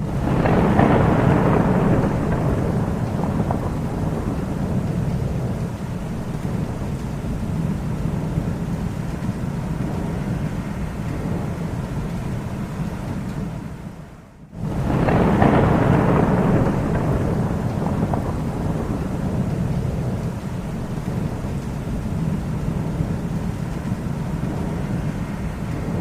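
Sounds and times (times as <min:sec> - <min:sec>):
thunder rumbling: 0:00.0 - 0:26.0.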